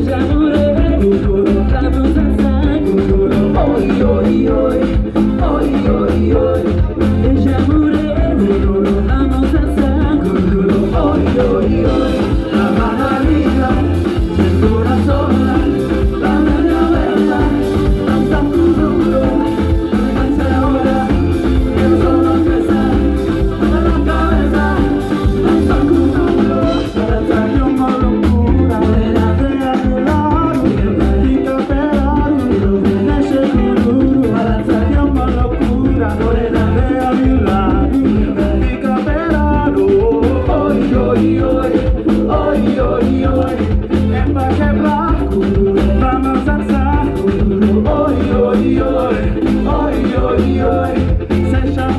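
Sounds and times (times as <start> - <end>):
live band playing latin song: 0.0 - 51.9
person singing: 0.0 - 51.9.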